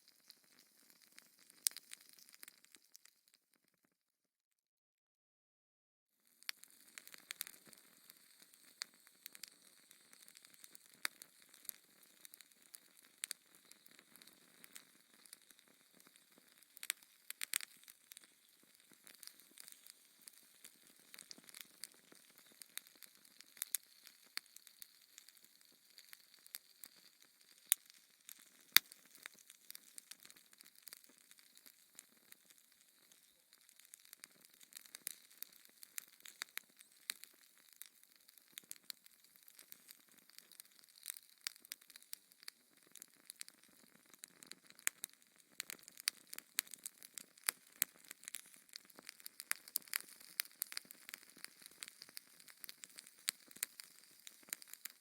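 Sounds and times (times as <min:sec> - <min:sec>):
wood fire crackling: 0:00.0 - 0:03.1, 0:06.4 - 0:55.0.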